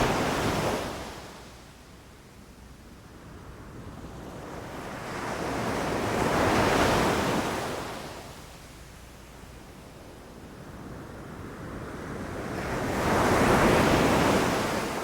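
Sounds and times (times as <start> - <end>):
low rumble of sea: 0.0 - 15.0.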